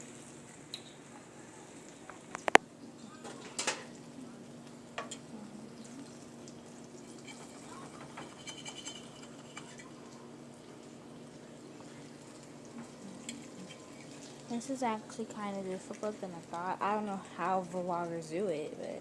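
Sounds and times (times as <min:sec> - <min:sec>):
food frying in a pan: 0:00.0 - 0:19.0
steady low hum: 0:00.0 - 0:19.0.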